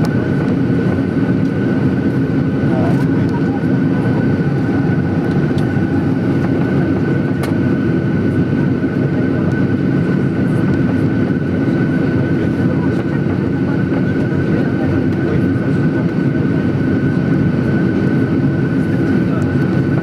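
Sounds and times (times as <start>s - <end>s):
aircraft cabin rumble: 0.0s - 20.0s
jet engine whine: 0.0s - 20.0s.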